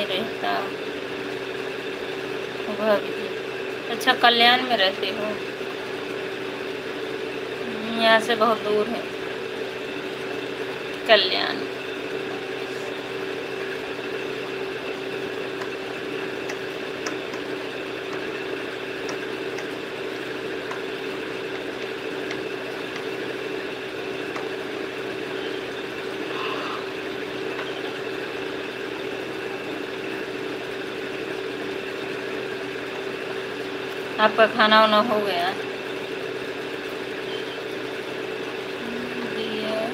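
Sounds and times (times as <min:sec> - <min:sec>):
mechanical hum: 0:00.0 - 0:39.9.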